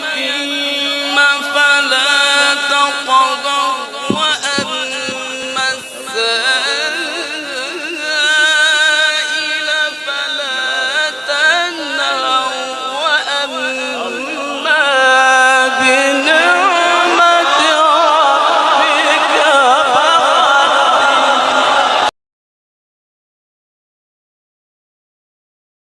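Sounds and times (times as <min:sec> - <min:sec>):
person singing with vibrato: 0:00.0 - 0:22.1.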